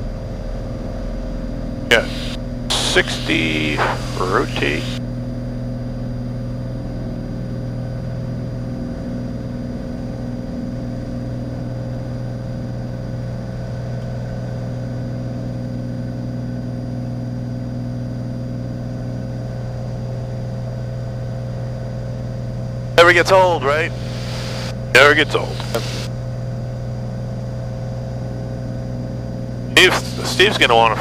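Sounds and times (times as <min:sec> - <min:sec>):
aircraft engine and propeller droning: 0:00.0 - 0:20.8, 0:22.4 - 0:31.0.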